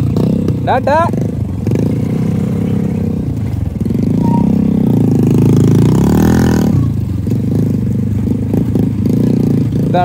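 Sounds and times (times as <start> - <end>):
motorcycle engine under load: 0.0 - 10.0.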